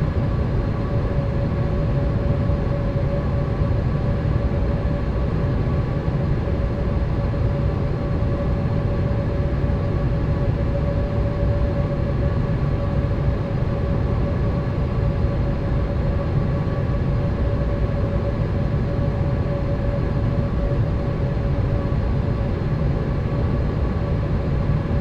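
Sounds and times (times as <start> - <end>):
constant hum tone: 0.0 - 25.0.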